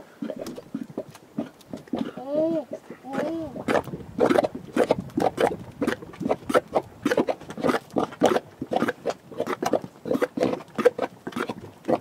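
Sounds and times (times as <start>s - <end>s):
mud bubbling and plopping: 0.0s - 12.0s.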